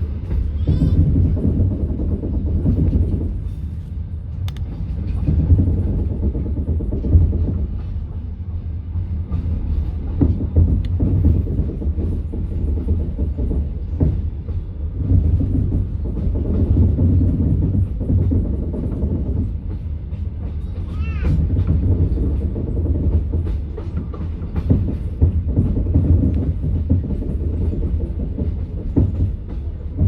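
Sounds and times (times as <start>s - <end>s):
train carriage rumble: 0.0s - 30.0s.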